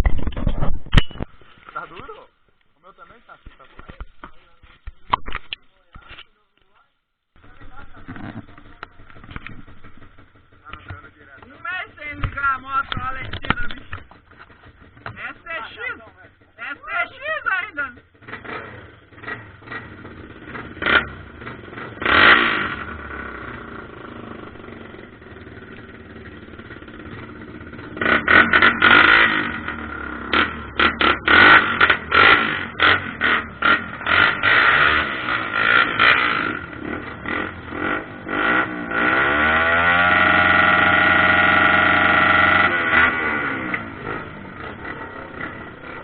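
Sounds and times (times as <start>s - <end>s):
motorcycle engine revving: 7.4s - 46.0s.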